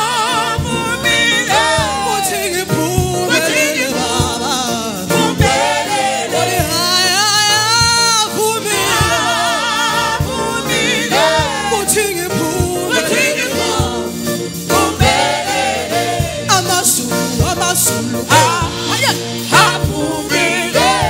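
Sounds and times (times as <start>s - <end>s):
band accompaniment: 0.0s - 21.0s
gospel choir singing: 0.0s - 21.0s
steady drum beat: 0.0s - 21.0s.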